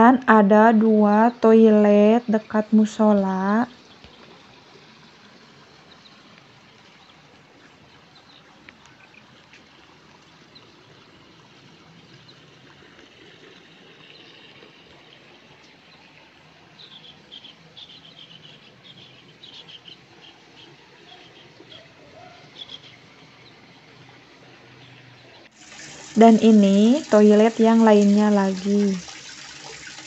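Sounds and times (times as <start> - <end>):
outdoor background hiss: 0.0 - 30.0.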